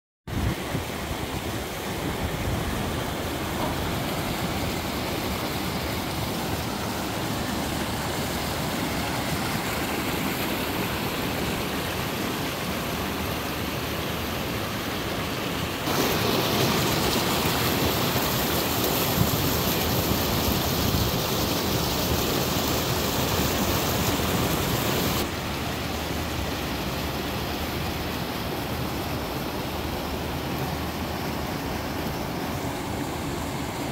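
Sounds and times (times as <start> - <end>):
mountain stream and waterfall rushing: 0.3 - 33.9.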